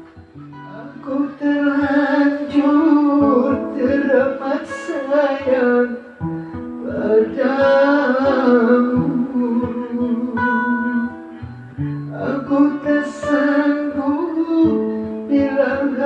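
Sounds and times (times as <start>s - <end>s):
fingerpicked acoustic guitar: 0.0s - 16.0s
person singing slow melody: 0.0s - 16.0s.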